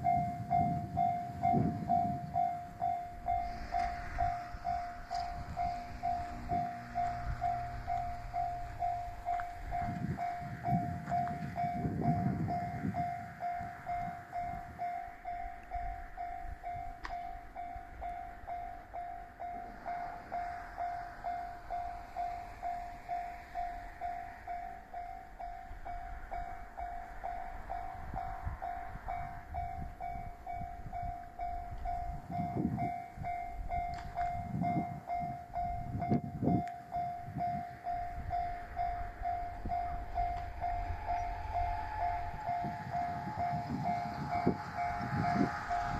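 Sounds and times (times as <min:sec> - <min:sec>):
level crossing bell ringing: 0:00.0 - 0:45.9
train low rumble: 0:00.0 - 0:45.9.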